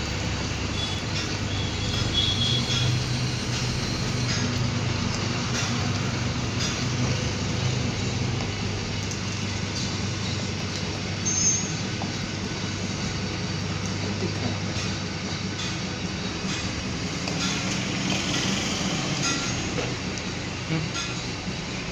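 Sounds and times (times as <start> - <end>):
gas furnace rushing: 0.0 - 21.9.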